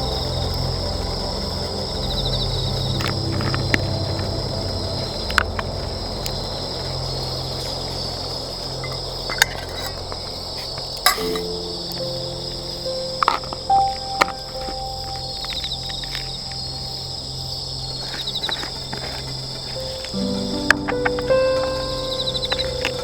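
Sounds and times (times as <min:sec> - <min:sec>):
background music: 0:00.0 - 0:23.0
night insects chirping: 0:00.0 - 0:23.0.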